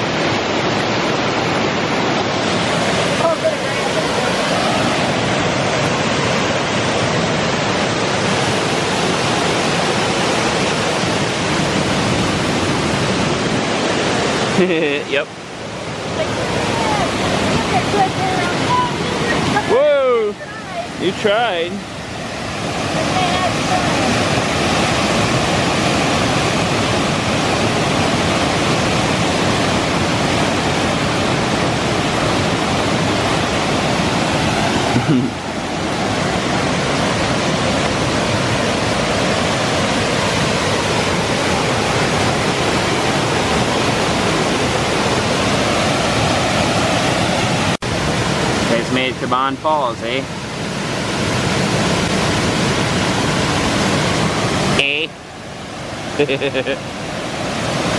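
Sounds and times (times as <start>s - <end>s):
waterfall rushing over rocks: 0.0s - 57.9s.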